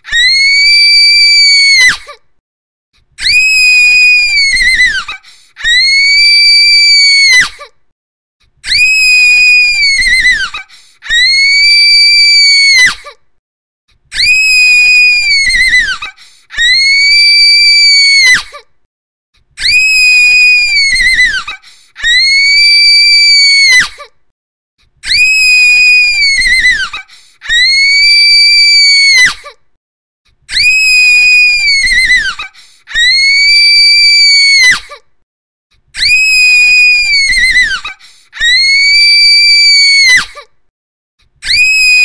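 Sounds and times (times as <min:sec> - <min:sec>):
girl screaming: 0:00.0 - 0:02.2, 0:03.2 - 0:07.7, 0:08.6 - 0:13.2, 0:14.1 - 0:18.6, 0:19.6 - 0:24.1, 0:25.0 - 0:29.6, 0:30.5 - 0:35.0, 0:36.0 - 0:40.5, 0:41.4 - 0:42.0.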